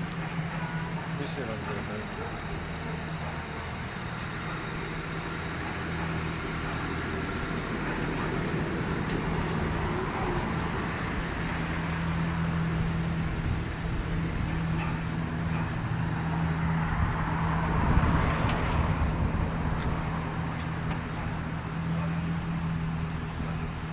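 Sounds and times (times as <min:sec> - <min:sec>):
vehicle engine idling: 0:00.0 - 0:23.9.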